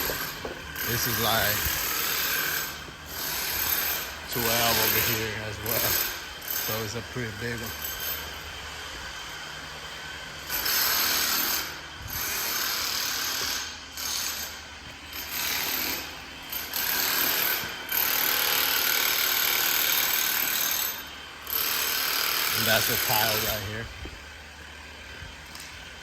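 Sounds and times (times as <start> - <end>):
power tool running in bursts: 0.0 - 26.0.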